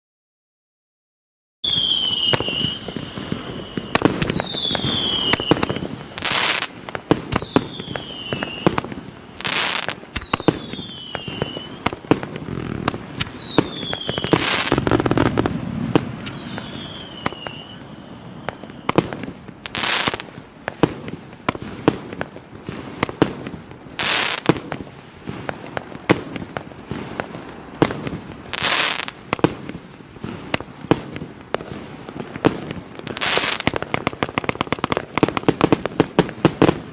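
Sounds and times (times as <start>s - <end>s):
fireworks launch pops and bursts: 1.6s - 36.9s
fireworks whistles falling in pitch: 1.6s - 36.9s.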